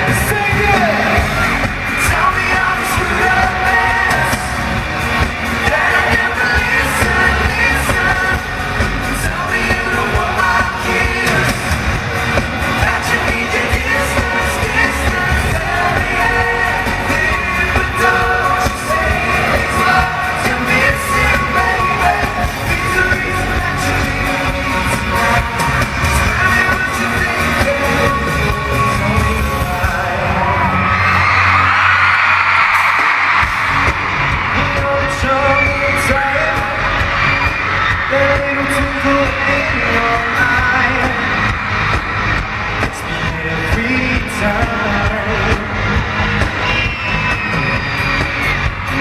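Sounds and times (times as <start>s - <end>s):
crowd noise: 0.0s - 49.0s
lead vocals singing: 0.0s - 49.0s
live pop band: 0.0s - 49.0s.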